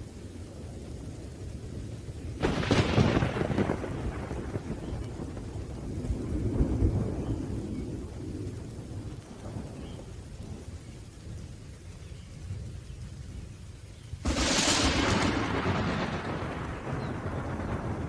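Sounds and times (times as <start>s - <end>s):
steady rain: 0.0s - 18.0s
thunder rumbling low: 0.0s - 18.0s.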